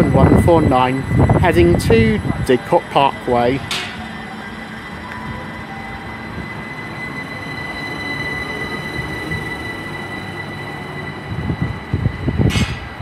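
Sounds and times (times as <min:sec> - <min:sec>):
high-pitched whine: 0:00.0 - 0:13.0
train rumbling on rails: 0:00.0 - 0:13.0.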